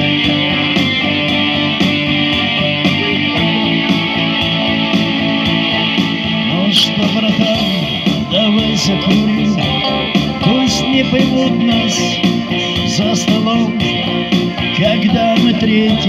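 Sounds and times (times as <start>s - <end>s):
backing beat: 0.0s - 16.0s
electric guitar through small speakers: 0.0s - 16.0s.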